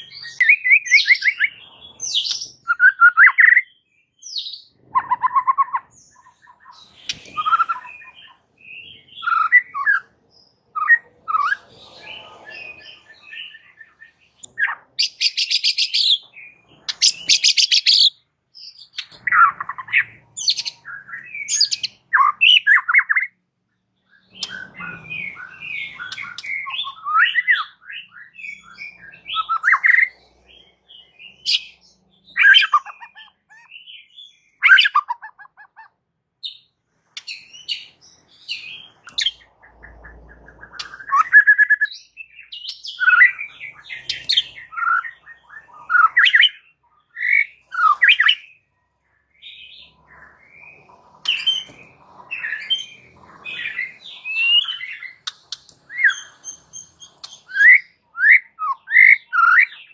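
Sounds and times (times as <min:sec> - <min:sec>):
songbird whistling and chirping: 0:00.0 - 0:23.4, 0:24.0 - 0:59.9
harsh rattling bird calls: 0:00.0 - 0:59.9.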